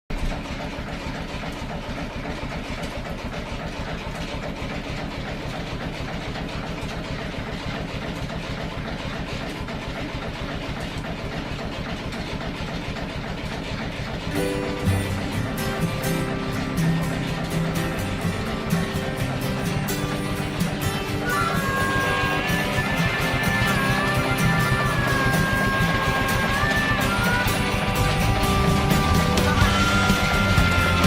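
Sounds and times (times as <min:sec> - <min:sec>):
steam engine running rhythmically: 0:00.1 - 0:31.0.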